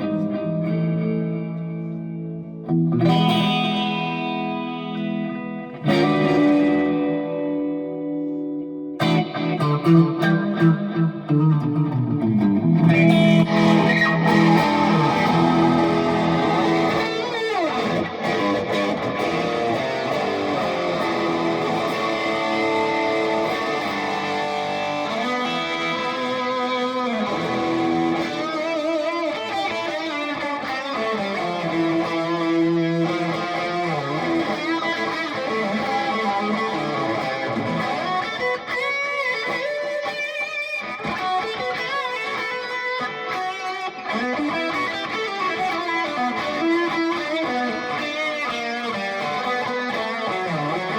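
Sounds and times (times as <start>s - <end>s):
electric guitar notes and chords: 0.0s - 50.9s.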